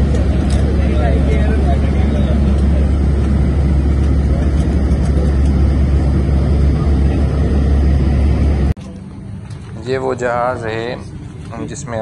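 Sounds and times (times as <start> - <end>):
vehicle rumble and road noise: 0.0 - 12.0.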